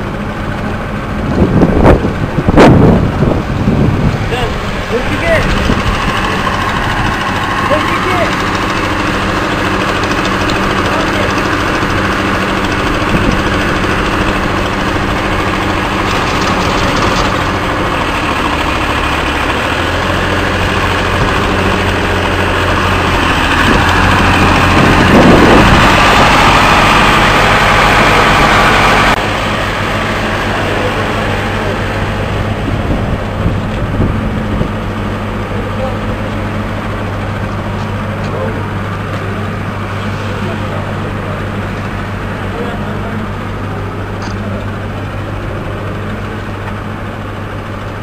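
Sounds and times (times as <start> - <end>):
heavy engine idling: 0.0 - 48.0.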